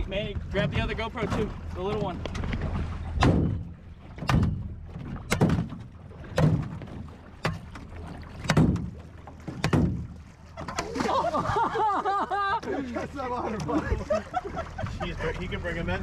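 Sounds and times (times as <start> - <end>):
waves slapping boat hull: 0.0 - 16.0.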